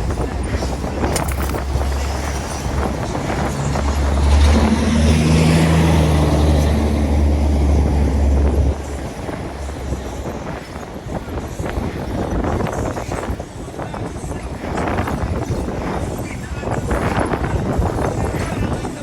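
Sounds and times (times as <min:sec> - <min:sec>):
heavy low rumble: 0:00.0 - 0:19.0
vehicle engine running: 0:00.0 - 0:19.0.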